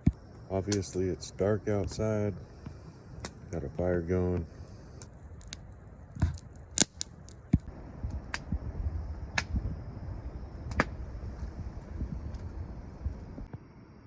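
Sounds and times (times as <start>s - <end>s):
campfire crackling: 0.0s - 13.5s
faint low rumble: 0.0s - 14.0s.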